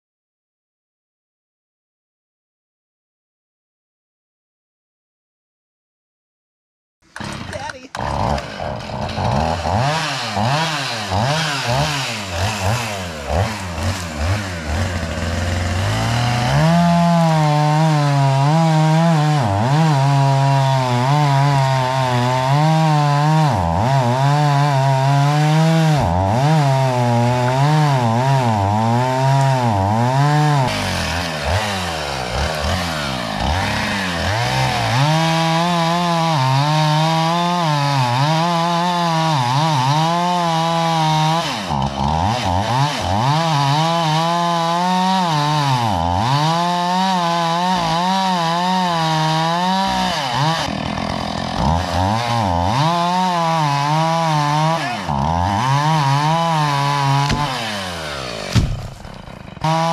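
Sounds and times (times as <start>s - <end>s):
chainsaw cutting wood: 7.0s - 59.9s.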